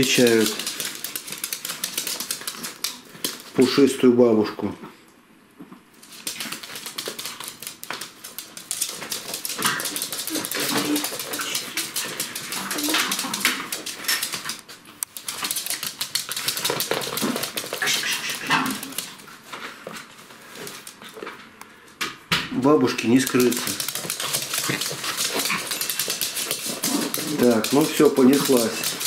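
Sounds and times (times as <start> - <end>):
claws clicking on laminate floor: 0.0 - 3.6, 6.0 - 21.3, 23.0 - 29.0.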